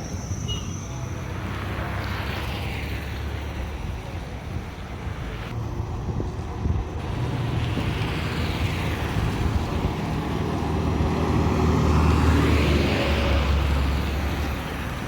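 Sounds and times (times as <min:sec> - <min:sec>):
vehicle passing on road: 0:00.0 - 0:15.0.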